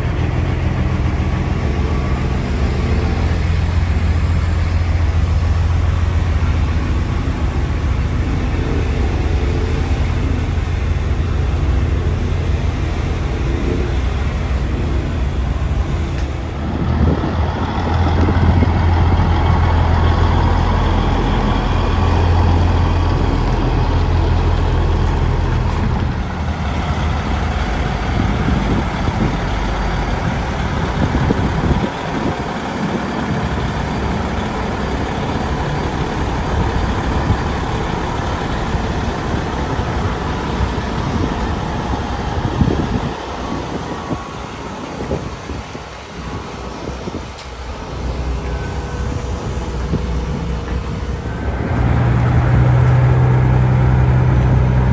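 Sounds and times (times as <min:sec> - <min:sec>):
diesel truck engines droning: 0:00.0 - 0:54.9
traffic rumble: 0:00.0 - 0:54.9.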